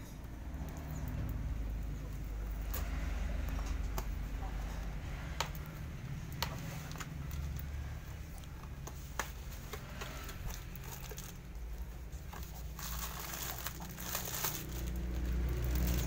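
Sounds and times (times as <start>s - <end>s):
sharp clicks and scraping: 0.0s - 16.0s
plastic rustling and crinkling: 0.8s - 16.0s.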